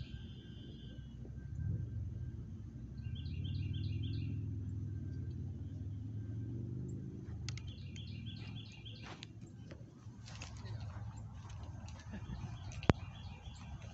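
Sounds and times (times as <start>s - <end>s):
songbird singing: 0.0s - 1.8s, 2.7s - 13.9s
steady low rumble: 0.0s - 13.9s.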